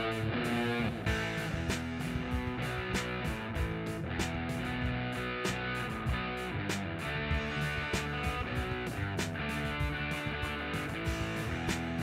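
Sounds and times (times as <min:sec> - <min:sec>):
guitar music with steady beat: 0:00.0 - 0:12.0.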